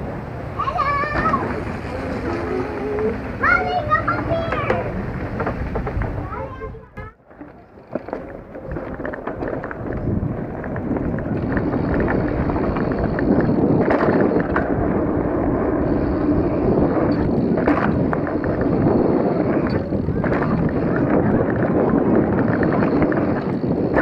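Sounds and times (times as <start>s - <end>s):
wind rushing over microphone: 0.0s - 7.1s, 7.8s - 24.0s
bike tyres rolling on dirt: 0.0s - 24.0s
bike rattling and clacking: 1.1s - 6.6s, 7.3s - 24.0s.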